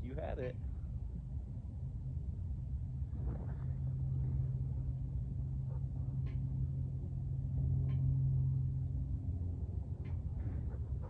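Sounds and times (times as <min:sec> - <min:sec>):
low hum: 0:00.0 - 0:11.0
low rumble: 0:00.0 - 0:11.0.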